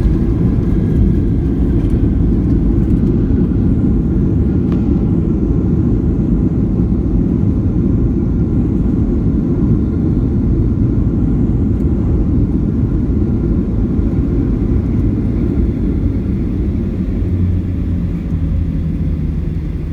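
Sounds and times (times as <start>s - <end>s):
airliner cabin rumble: 0.0s - 19.9s.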